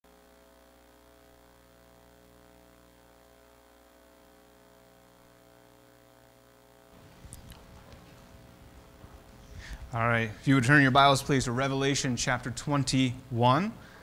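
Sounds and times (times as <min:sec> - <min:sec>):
faint electrical hum: 0:00.1 - 0:14.0.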